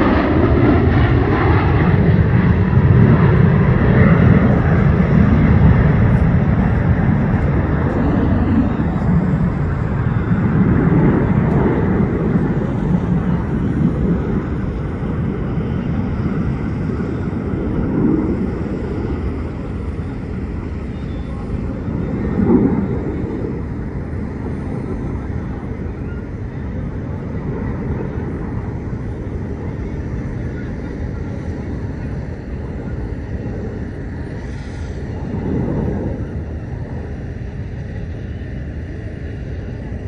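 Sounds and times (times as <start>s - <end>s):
fighter jets passing overhead: 0.0s - 40.0s.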